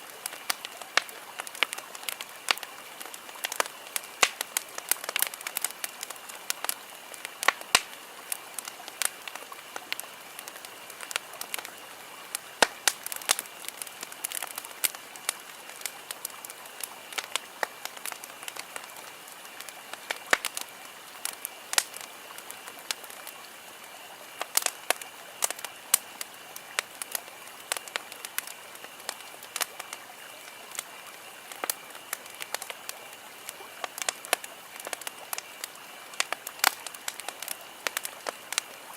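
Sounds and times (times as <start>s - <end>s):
campfire crackling: 0.0s - 38.9s
hiss of burning: 0.0s - 38.9s.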